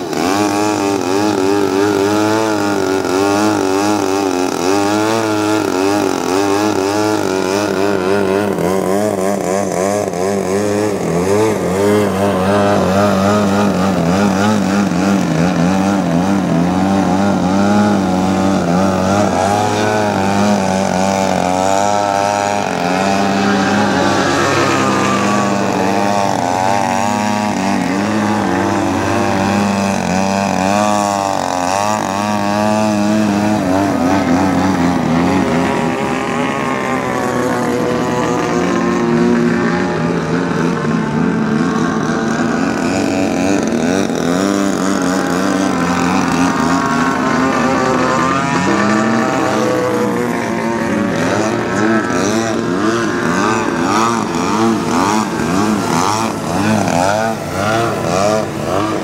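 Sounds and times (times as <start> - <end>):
model airplane engine revving: 0.0 - 59.0.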